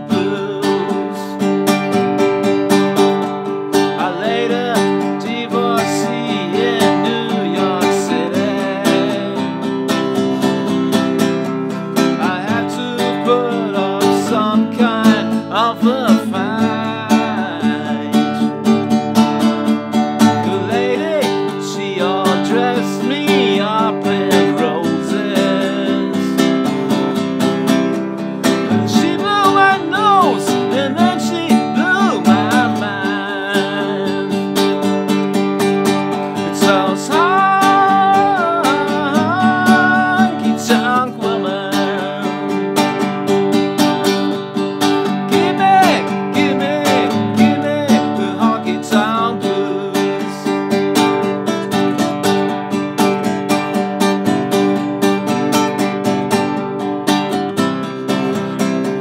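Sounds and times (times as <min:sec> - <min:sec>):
man singing: 0:00.0 - 0:52.5, 0:58.0 - 0:59.0
classical guitar strummed: 0:00.0 - 0:59.0.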